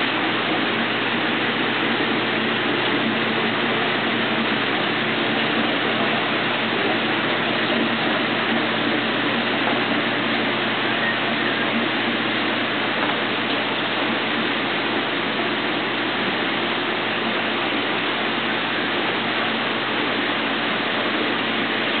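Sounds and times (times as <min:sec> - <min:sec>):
low steady hum: 0:00.0 - 0:22.0
water rushing in aquarium: 0:00.0 - 0:22.0.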